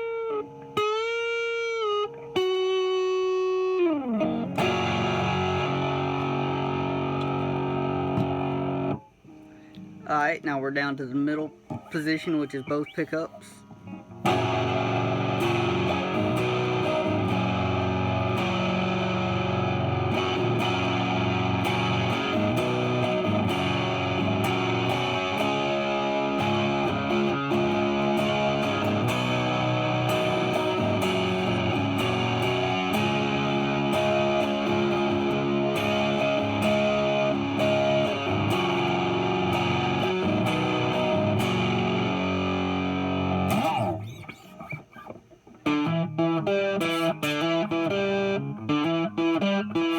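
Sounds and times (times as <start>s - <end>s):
amplified electric guitar: 0.0s - 49.9s.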